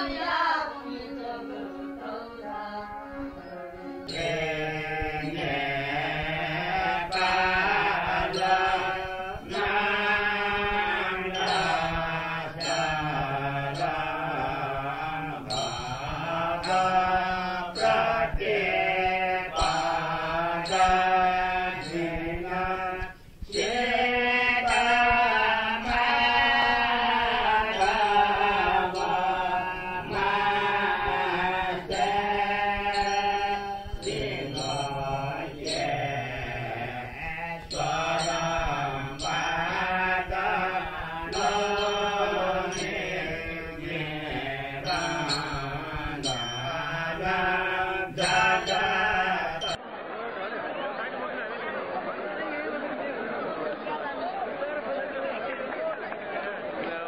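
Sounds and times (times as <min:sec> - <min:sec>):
voice chanting mantra: 0:00.0 - 0:49.8.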